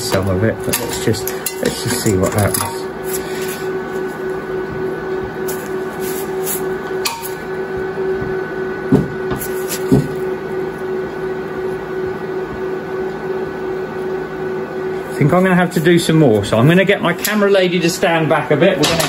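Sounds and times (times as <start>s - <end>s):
workshop hum: 0.0s - 19.0s.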